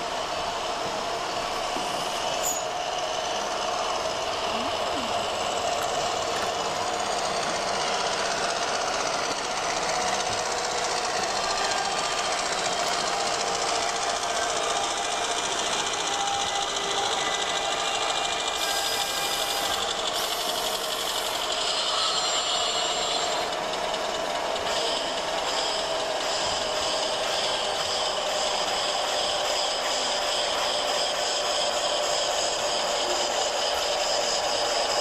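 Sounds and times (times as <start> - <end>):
model train mechanical chatter: 0.0 - 35.0.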